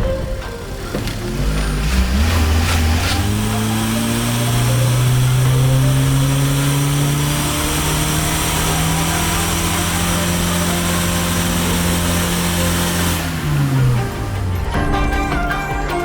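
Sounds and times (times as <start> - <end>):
car engine running under load: 0.0 - 15.8.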